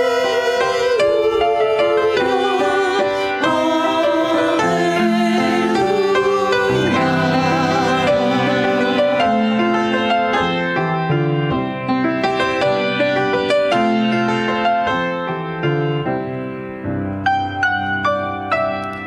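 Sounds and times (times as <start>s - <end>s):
piano playing hymn: 0.0s - 19.0s.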